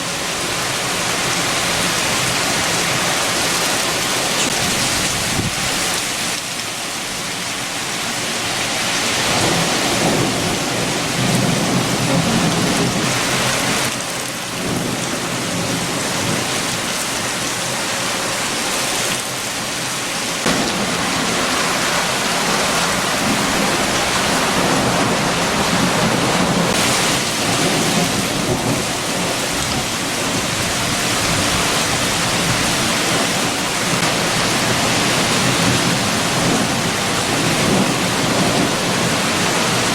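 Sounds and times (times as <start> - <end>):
gusting wind: 0.0 - 39.9
heavy rain falling: 0.0 - 39.9.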